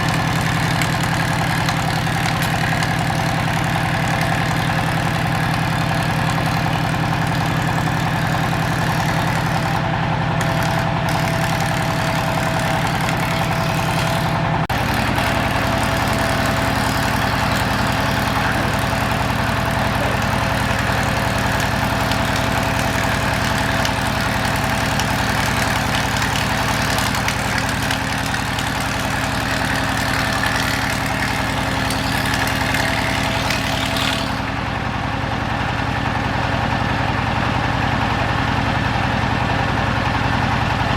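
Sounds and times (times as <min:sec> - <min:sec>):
woodworking machinery humming: 0:00.0 - 0:36.8.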